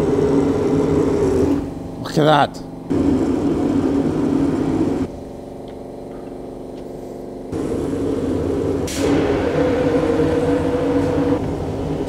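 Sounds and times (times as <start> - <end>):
machine motor hum: 0.0 - 12.0.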